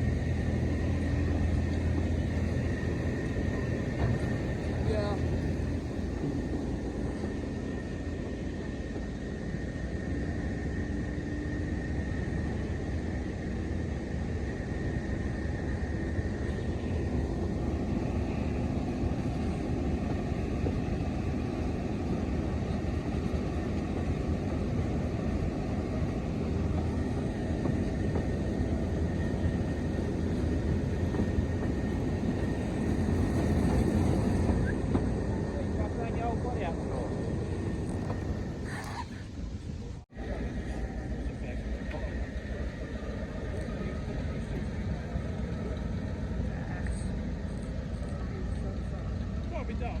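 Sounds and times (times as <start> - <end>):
diesel train rumbling: 0.0 - 50.0.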